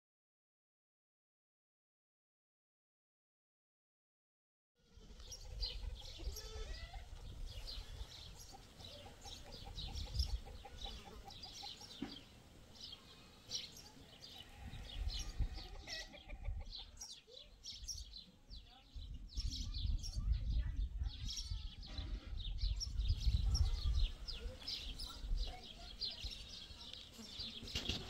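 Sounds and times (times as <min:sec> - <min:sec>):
birds chirping: 0:05.0 - 0:28.0.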